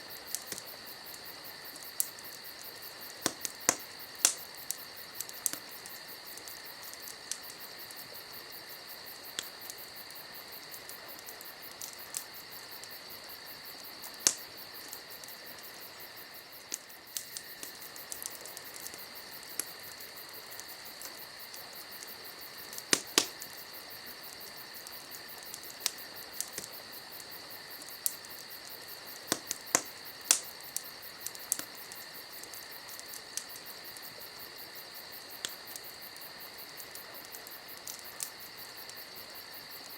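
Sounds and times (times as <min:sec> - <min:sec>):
campfire crackling and popping: 0:00.0 - 0:39.9
insects chirping: 0:00.0 - 0:39.9.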